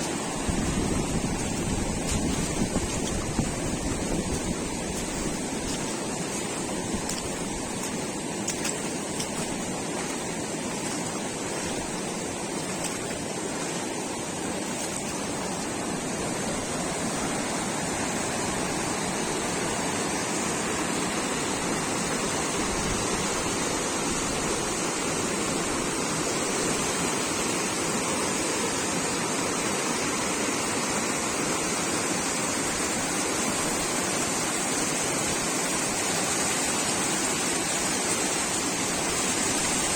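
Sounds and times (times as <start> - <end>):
fast-flowing river water: 0.0 - 39.9.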